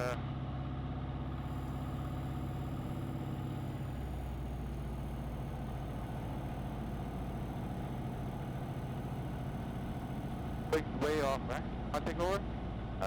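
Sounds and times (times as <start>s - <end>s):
aircraft engine and propeller droning: 1.3s - 13.0s.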